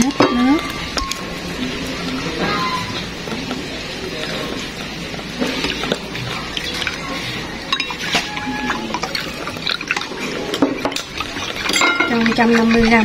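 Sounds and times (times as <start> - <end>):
water pouring into a glass bowl: 0.0 - 13.0.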